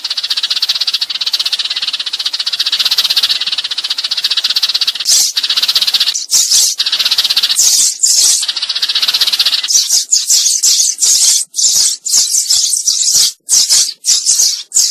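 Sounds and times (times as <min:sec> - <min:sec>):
loud high bird calls: 0:00.0 - 0:14.9
sparrows chattering: 0:00.0 - 0:14.9.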